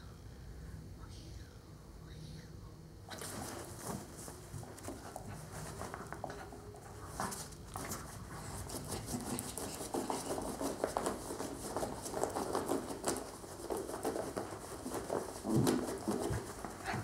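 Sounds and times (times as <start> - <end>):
dog paws pattering on carpet: 3.1 - 17.0
dog scuffling against clothes: 3.1 - 17.0.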